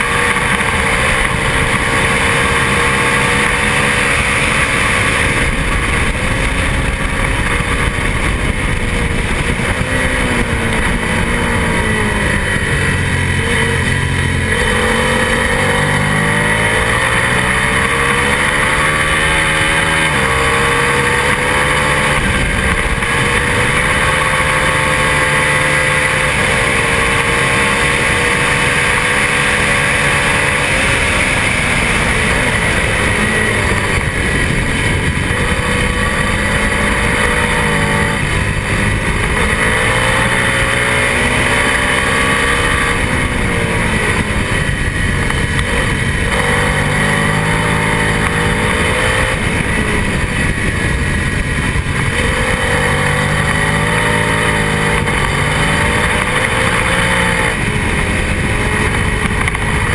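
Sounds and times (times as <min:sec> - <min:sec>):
racing motorcycle engine revving: 0:00.0 - 0:59.9
wind rush: 0:00.0 - 0:59.9.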